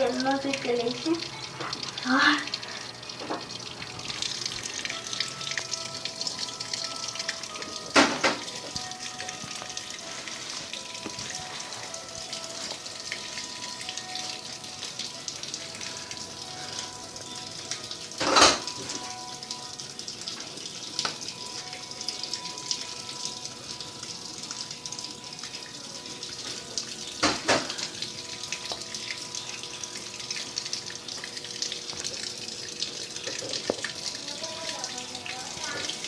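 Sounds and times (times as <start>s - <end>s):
water filling washing machine: 0.0s - 36.0s.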